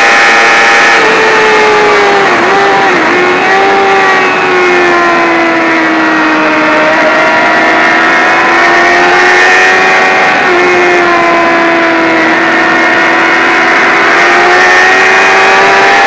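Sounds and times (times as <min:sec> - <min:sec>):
motorcycle engine at high revs: 0:00.0 - 0:16.0
rushing wind: 0:00.0 - 0:16.0.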